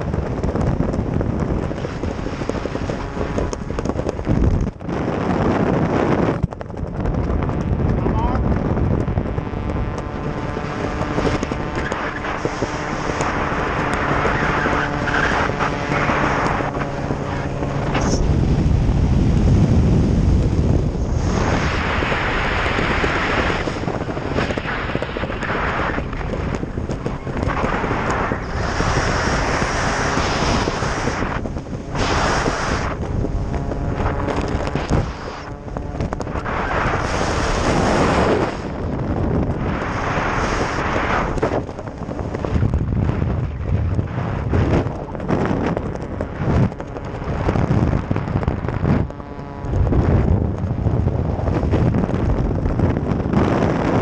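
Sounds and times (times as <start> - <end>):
steady droning tone: 0.0 - 54.0
wind buffeting microphone: 0.0 - 54.0.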